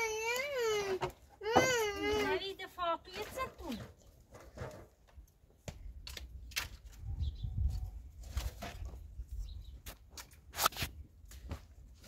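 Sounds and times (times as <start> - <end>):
firewood sticks knocking and scraping: 0.2 - 7.1, 8.2 - 12.0.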